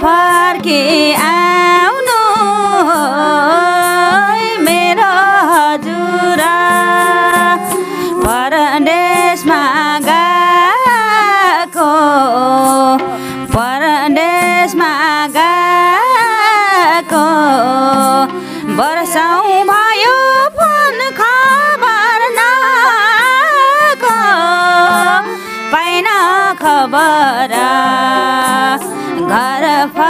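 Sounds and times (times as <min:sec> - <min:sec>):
rhythmic percussion beat: 0:00.0 - 0:30.0
woman singing folk song: 0:00.0 - 0:30.0.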